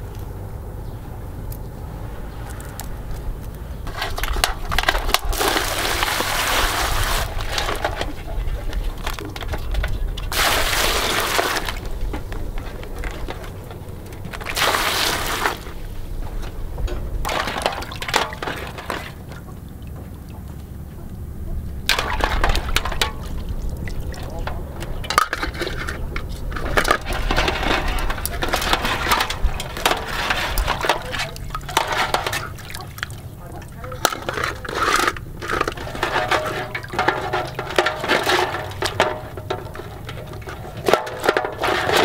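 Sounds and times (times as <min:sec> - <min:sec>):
water sloshing in metal basin: 0:03.7 - 0:42.0.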